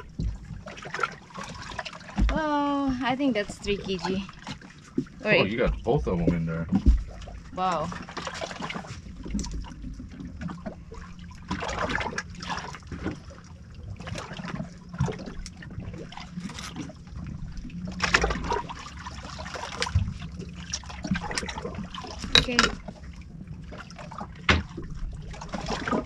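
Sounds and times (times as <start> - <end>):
low steady hum: 0.0 - 26.0
water splashing and trickling: 0.0 - 26.0.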